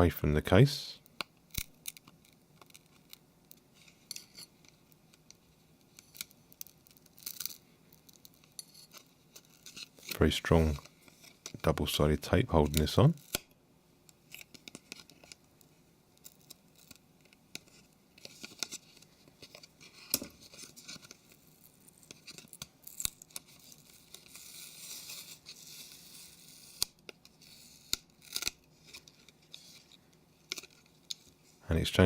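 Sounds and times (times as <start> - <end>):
small sharp clicks and scratches: 1.0 - 11.9, 12.6 - 31.5
tape peeling crackle: 1.5 - 11.8, 12.7 - 31.4.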